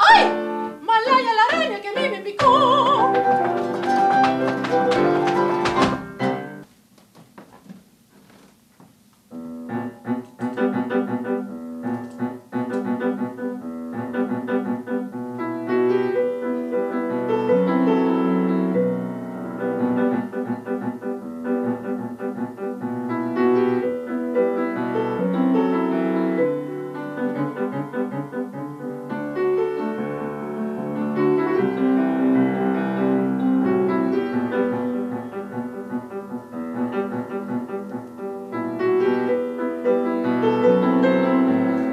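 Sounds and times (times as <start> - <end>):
solo grand piano: 0.0 - 6.7, 9.3 - 41.9.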